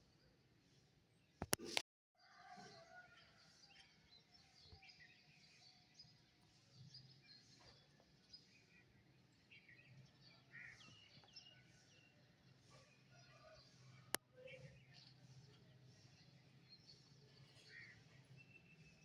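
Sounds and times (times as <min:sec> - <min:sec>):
songbirds chirping and trilling: 0:02.5 - 0:19.0.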